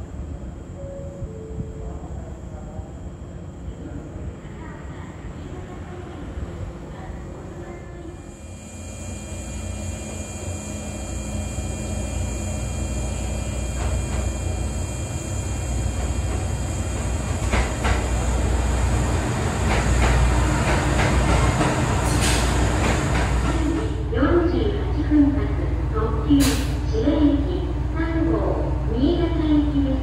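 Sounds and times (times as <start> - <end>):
train running on rails: 0.0 - 30.0.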